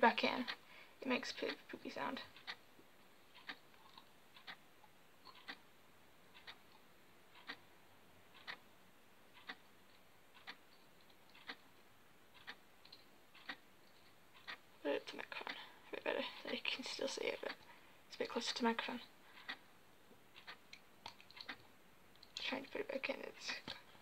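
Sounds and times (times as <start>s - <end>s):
clock ticking: 0.0s - 7.7s, 8.3s - 19.7s, 20.3s - 23.8s.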